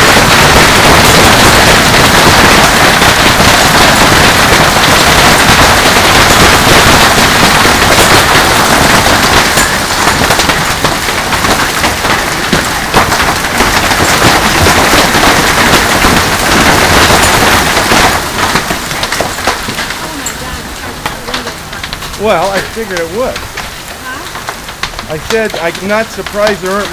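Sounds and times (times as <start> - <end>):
hailstones pelting pool and yard: 0.0 - 26.9.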